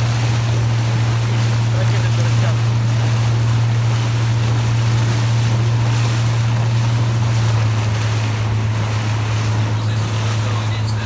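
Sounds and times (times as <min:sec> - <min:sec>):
boat engine droning: 0:00.0 - 0:11.0
wind and water rushing: 0:00.0 - 0:11.0.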